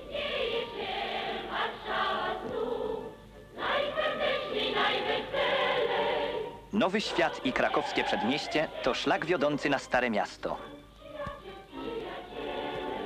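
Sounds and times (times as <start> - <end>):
choir singing with accompaniment: 0.0 - 9.8, 10.6 - 13.0.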